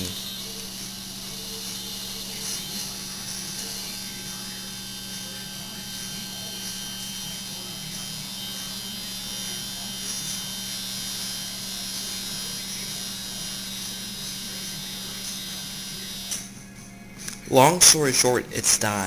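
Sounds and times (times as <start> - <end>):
refrigerator electric buzzing hum: 0.0 - 19.0.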